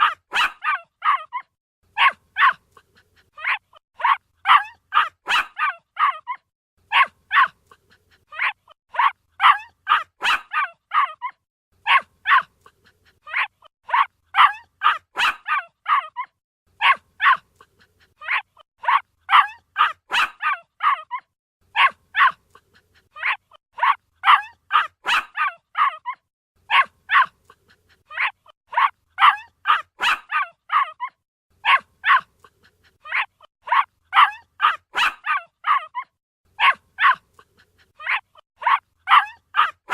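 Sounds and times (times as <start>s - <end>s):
puppy yapping: 0.0s - 39.9s.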